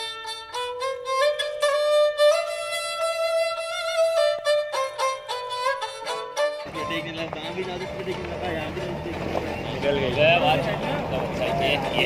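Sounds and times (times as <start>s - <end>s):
slow violin melody: 0.0s - 12.0s.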